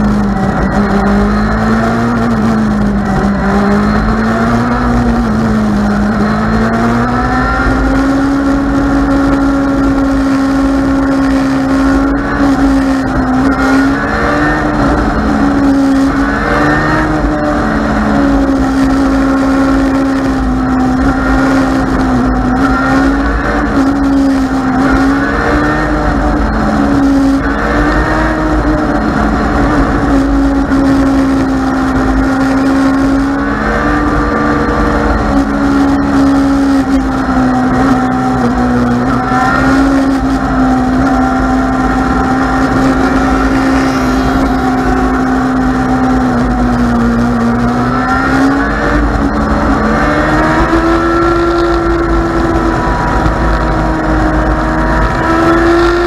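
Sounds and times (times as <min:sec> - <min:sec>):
motorcycle engine running at speed: 0:00.0 - 0:56.0.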